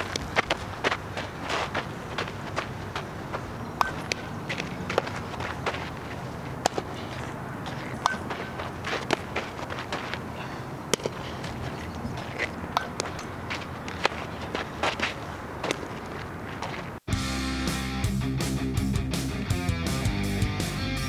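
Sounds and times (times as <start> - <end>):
footsteps on dirt: 0.0 - 17.1
steady background noise: 0.0 - 17.1.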